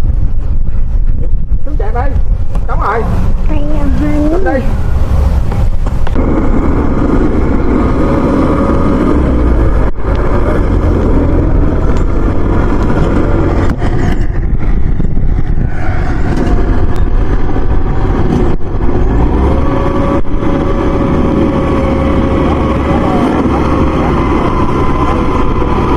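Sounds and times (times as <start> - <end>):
heavy machinery engine running: 2.3 - 25.9.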